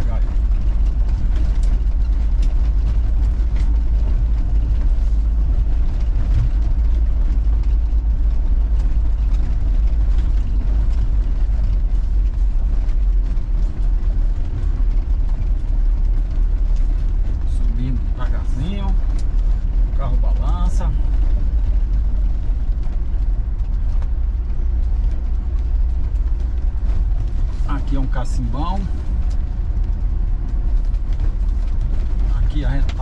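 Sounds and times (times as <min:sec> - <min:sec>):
low engine rumble: 0:00.0 - 0:33.0
road rumble: 0:00.0 - 0:33.0.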